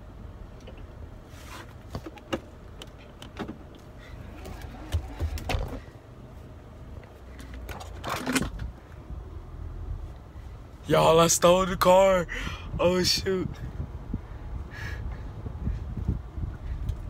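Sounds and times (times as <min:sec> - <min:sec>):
car engine rumble from cabin: 0:00.0 - 0:17.0.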